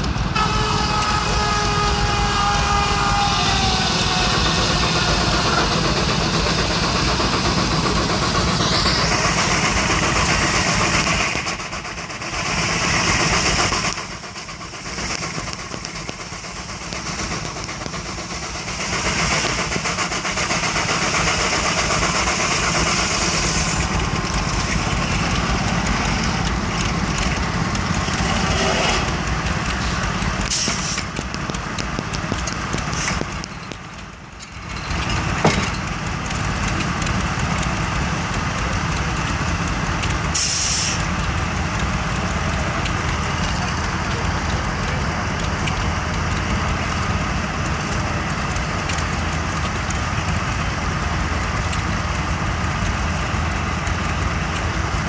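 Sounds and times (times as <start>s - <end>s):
steam engine and saw clatter: 0.0s - 55.0s.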